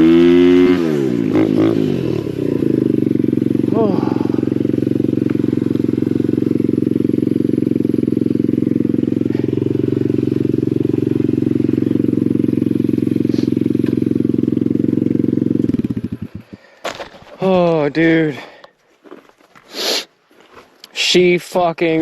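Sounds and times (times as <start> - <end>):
motorcycle engine running: 0.0 - 18.6.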